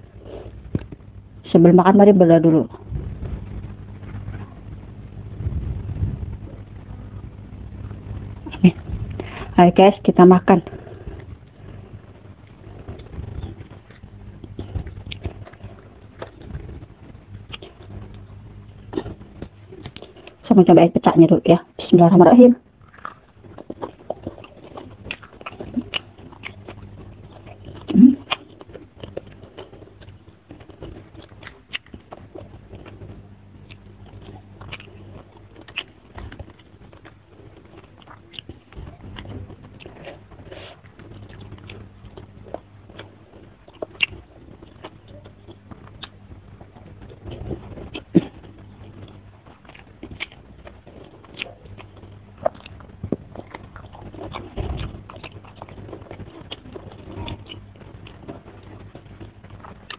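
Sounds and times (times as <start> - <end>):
faint low hum: 0.0 - 59.9
chewing and wet mouth sounds: 5.4 - 59.9.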